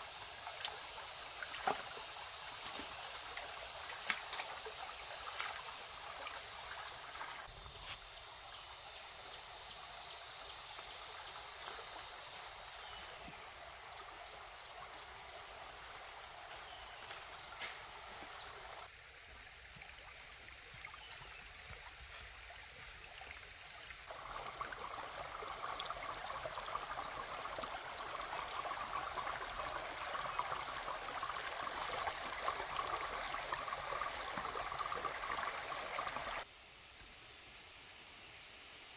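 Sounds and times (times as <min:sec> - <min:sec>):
stream water running: 0:00.0 - 0:36.5
insects trilling: 0:00.0 - 0:38.9.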